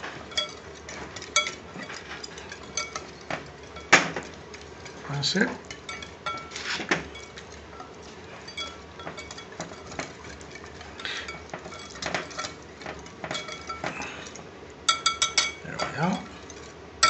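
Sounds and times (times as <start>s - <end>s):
spoon clinking against bowl: 0.3s - 16.7s.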